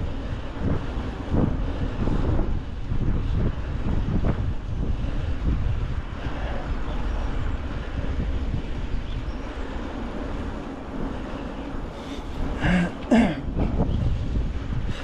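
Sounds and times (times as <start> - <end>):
mountain bike rolling: 0.0 - 15.0
wind buffeting microphone: 0.0 - 15.0.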